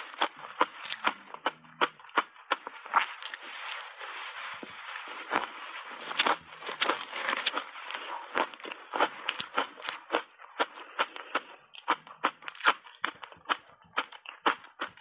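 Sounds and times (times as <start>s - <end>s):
ice crunching while chewed: 0.0s - 15.0s.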